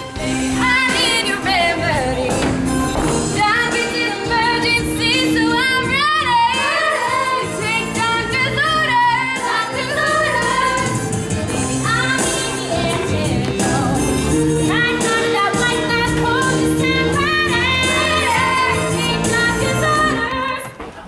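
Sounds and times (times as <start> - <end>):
woman singing: 0.0 - 11.1, 11.8 - 21.0
instrumental accompaniment: 0.0 - 20.8
voices singing: 0.0 - 20.8.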